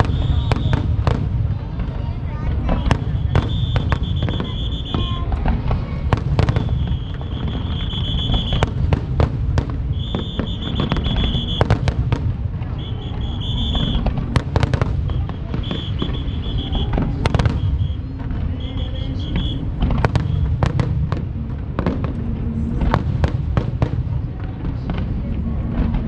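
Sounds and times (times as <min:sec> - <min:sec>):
fireworks cracking and banging: 0:00.0 - 0:26.0
low rumble: 0:00.0 - 0:26.0.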